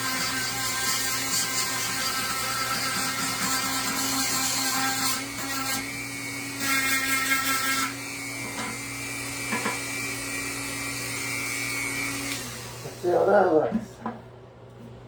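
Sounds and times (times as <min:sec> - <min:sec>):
power tool cutting wood: 0:00.0 - 0:13.5.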